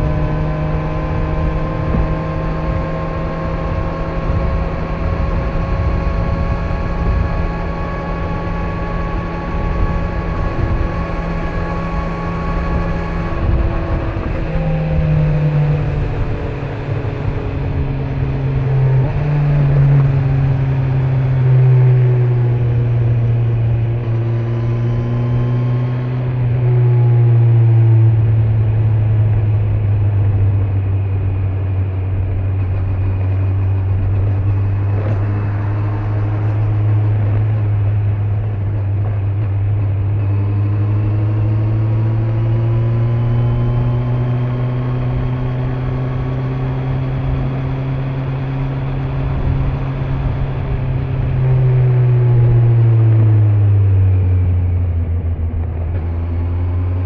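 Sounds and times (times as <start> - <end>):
motorcycle engine accelerating: 0.0 - 57.0
road and wind rush: 0.0 - 57.0.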